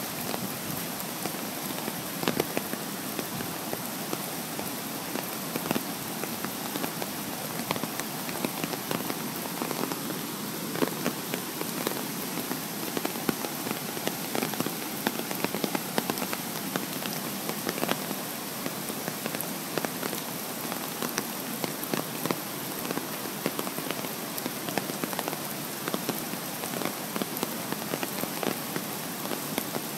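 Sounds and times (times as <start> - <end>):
river rushing: 0.0 - 29.9.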